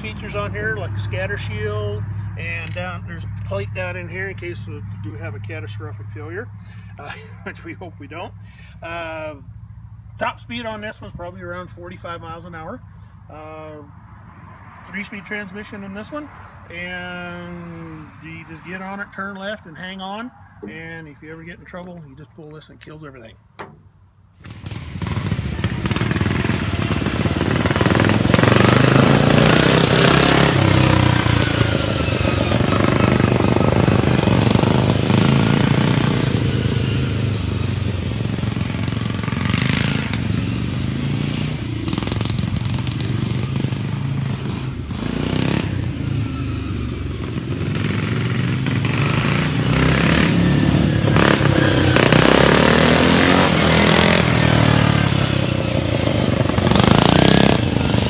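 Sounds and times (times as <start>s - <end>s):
lawn mower engines revving: 0.0s - 58.0s.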